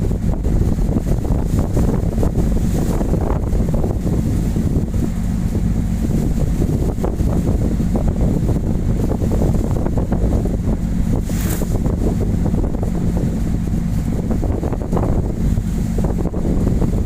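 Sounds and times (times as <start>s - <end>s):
steady low hum: 0.0s - 17.0s
wind gusts buffeting microphone: 0.0s - 17.0s.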